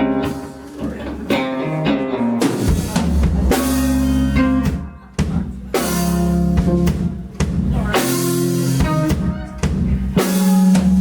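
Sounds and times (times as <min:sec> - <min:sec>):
bass guitar: 0:00.0 - 0:11.0
drum kit: 0:00.0 - 0:11.0
electric guitar playing: 0:00.0 - 0:11.0.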